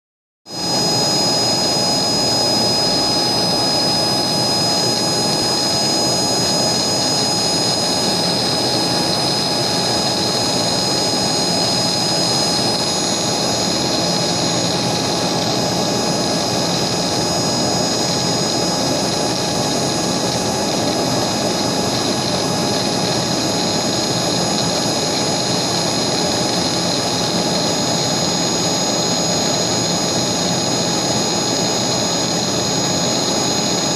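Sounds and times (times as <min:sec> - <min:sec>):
engraving machine spindle whine: 0:00.5 - 0:33.9.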